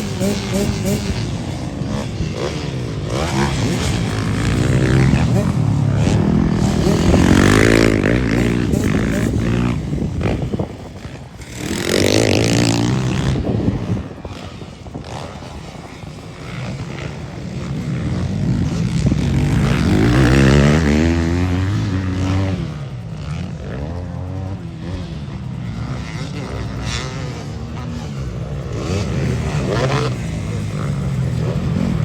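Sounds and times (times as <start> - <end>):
dirt bike engines revving past: 0.0 - 32.0.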